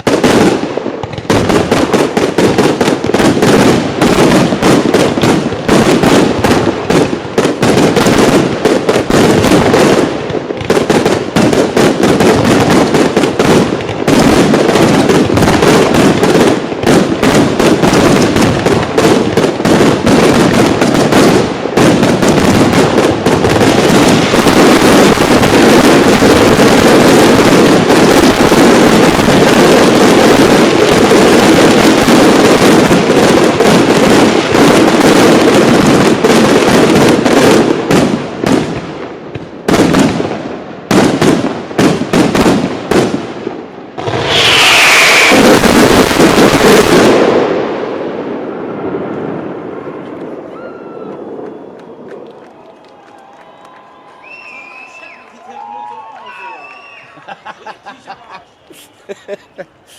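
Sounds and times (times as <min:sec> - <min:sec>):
fireworks falling tone: 0:00.0 - 0:40.2, 0:40.9 - 0:59.9
fireworks crackle and echo: 0:00.0 - 0:59.9.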